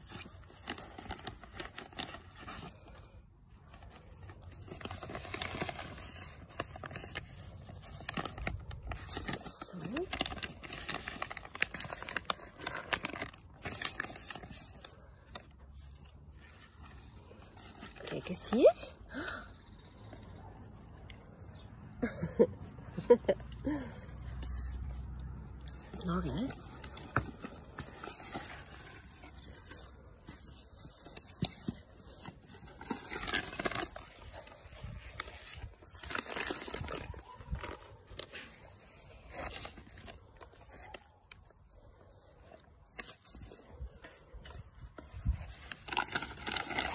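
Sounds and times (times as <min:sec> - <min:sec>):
packaging rustling and crinkling: 0:00.0 - 0:21.7, 0:22.7 - 0:46.9.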